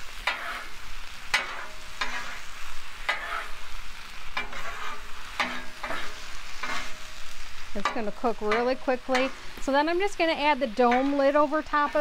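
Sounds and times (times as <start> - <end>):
meat sizzling: 0.0 - 12.0
spatula scraping metal griddle: 0.1 - 9.6, 10.4 - 12.0.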